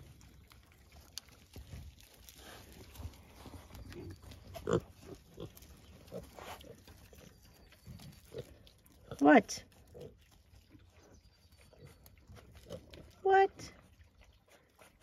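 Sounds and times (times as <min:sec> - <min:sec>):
pigs grunting: 0:02.3 - 0:11.0, 0:11.6 - 0:15.0.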